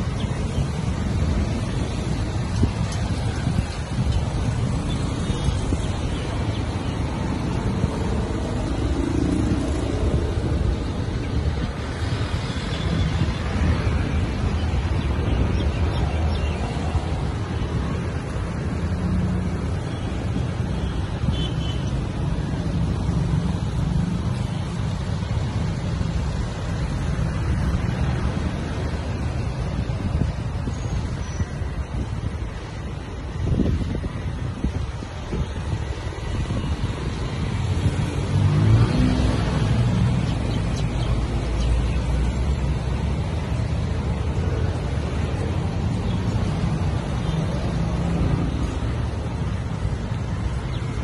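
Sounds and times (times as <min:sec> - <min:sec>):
cars passing: 0:00.0 - 0:51.0
motorcycles passing: 0:00.0 - 0:51.0
rumble of engines and tyres: 0:00.0 - 0:51.0.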